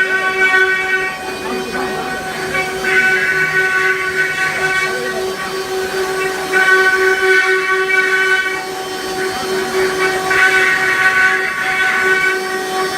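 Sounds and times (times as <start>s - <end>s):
router spindles whining: 0.0s - 12.9s.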